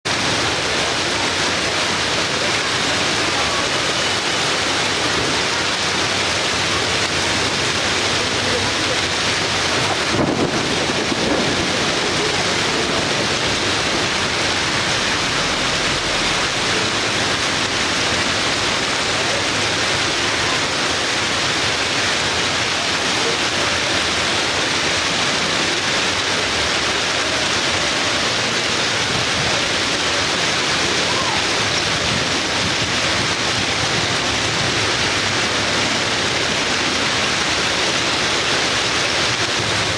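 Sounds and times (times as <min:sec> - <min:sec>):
rain downpour: 0:00.0 - 0:39.9.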